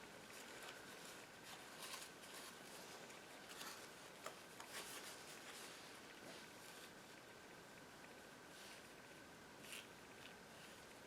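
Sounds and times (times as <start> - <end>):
soft rustles: 0.2 - 7.3, 8.4 - 11.0.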